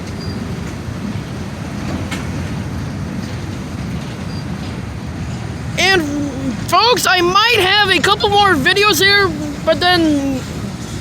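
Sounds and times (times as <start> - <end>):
freight train cars rumbling: 0.0 - 11.0.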